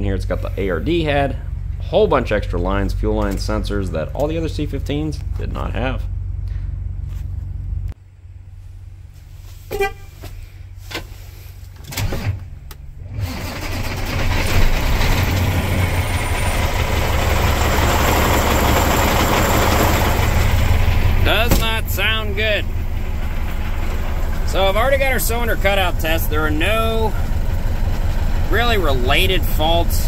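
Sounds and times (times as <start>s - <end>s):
diesel truck engine running: 0.0s - 9.7s, 10.4s - 30.0s
steady low hum: 0.0s - 11.8s, 16.0s - 30.0s.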